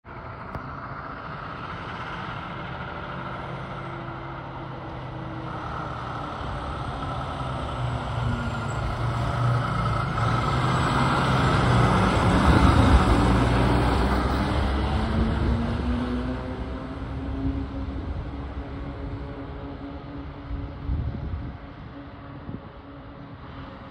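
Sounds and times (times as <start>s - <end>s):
fire engine passing by: 0.1s - 23.9s.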